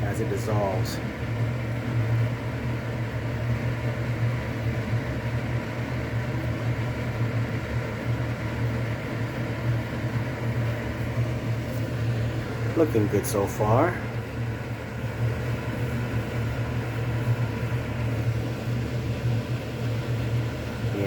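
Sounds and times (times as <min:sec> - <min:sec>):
fan motor humming: 0:00.0 - 0:21.0.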